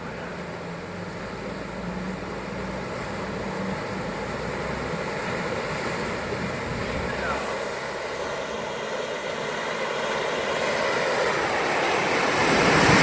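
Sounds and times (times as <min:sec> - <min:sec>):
off-road vehicle engine drone: 0:00.0 - 0:13.0.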